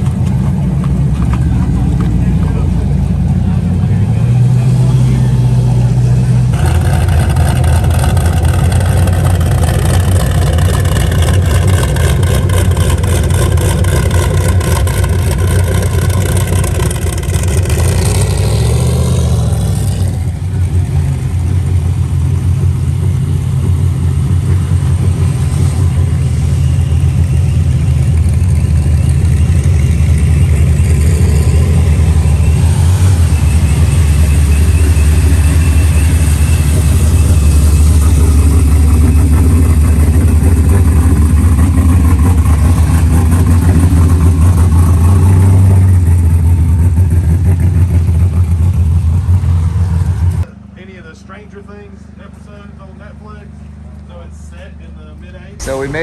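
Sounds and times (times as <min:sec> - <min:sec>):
car engine running: 0:00.0 - 0:50.5, 0:55.4 - 0:56.0.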